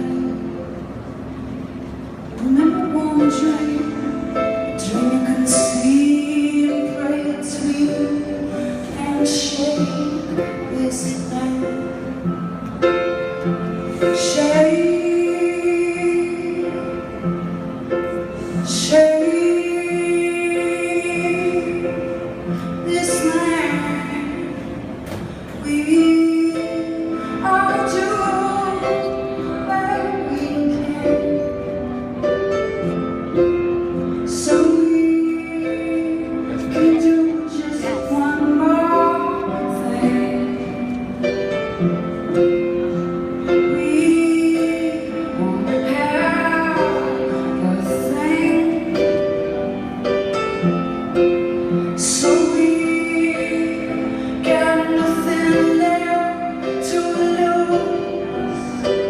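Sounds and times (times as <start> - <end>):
woman singing: 0.0 - 0.8, 2.3 - 12.5, 13.9 - 24.8, 25.5 - 32.0, 34.2 - 42.1, 42.7 - 49.9, 51.6 - 59.0.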